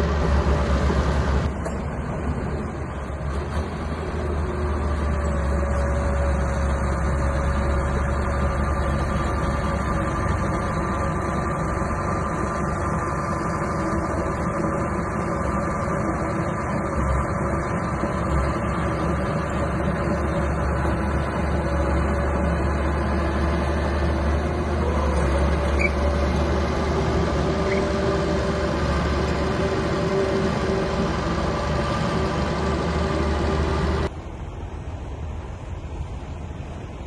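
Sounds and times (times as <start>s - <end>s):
bulldozer engine running: 0.0s - 37.0s.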